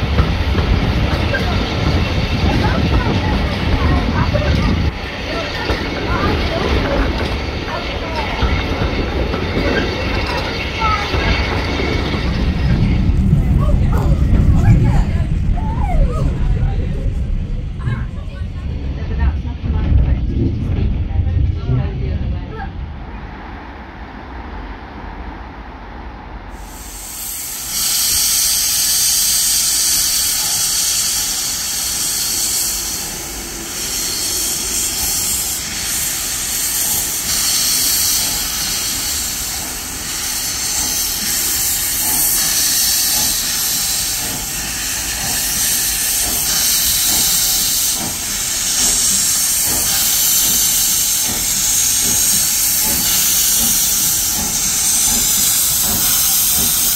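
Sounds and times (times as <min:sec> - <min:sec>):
steam locomotive hissing steam: 0:00.0 - 0:16.4, 0:26.4 - 0:56.9.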